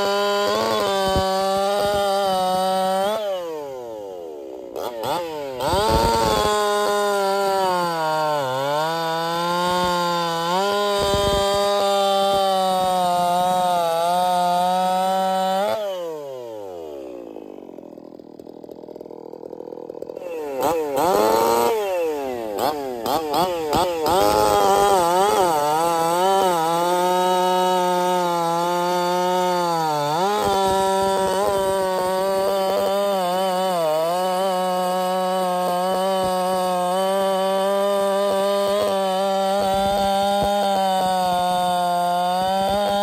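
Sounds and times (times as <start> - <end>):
chainsaw cutting log: 0.0 - 43.0.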